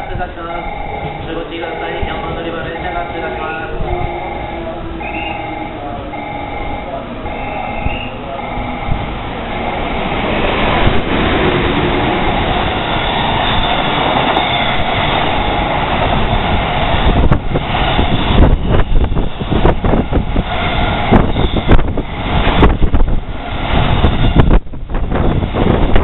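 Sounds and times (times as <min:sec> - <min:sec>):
freight train rushing past: 0:00.0 - 0:26.0.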